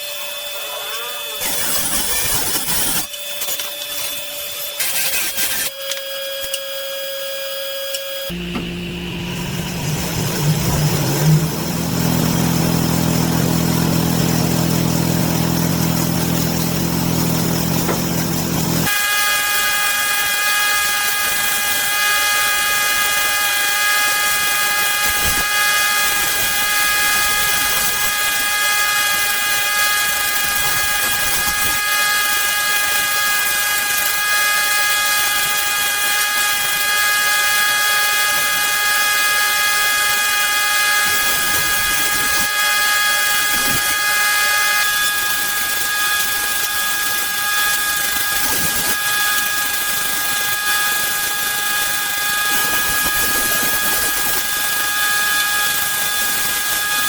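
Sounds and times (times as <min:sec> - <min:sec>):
power tool high whine and hiss: 0:00.0 - 0:57.0
power tool motor hum: 0:00.0 - 0:57.0.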